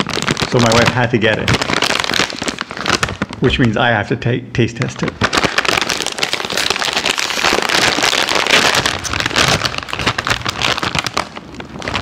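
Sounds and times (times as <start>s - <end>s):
plastic chip bag crinkling: 0.0s - 3.9s, 4.7s - 12.0s.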